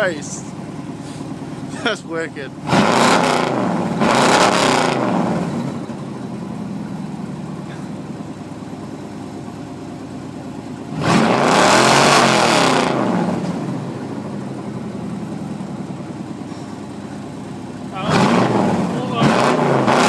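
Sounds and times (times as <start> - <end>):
truck engine revving: 0.0 - 9.6, 10.3 - 20.0.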